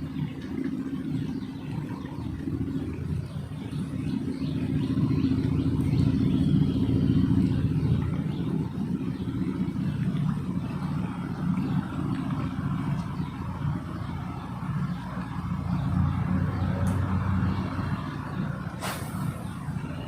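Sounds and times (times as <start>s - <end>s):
engine hum: 0.0s - 20.0s.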